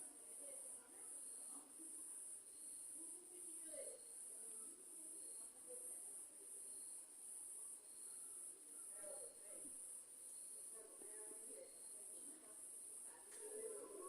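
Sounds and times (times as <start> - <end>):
crickets chirping: 0.2 - 13.2.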